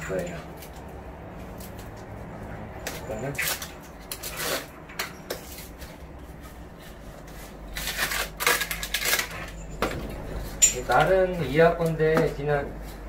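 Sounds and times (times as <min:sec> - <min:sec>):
paper and plastic packaging rustling: 0:00.2 - 0:13.0.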